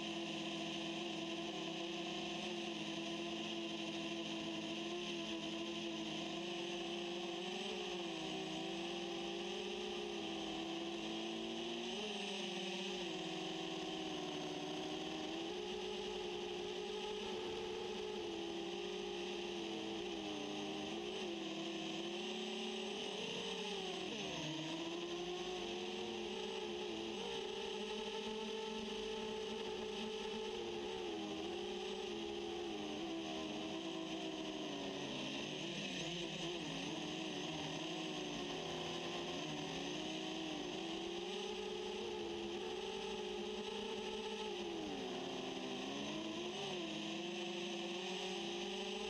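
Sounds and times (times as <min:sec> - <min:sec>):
drone propellers whirring: 0:00.1 - 0:49.0.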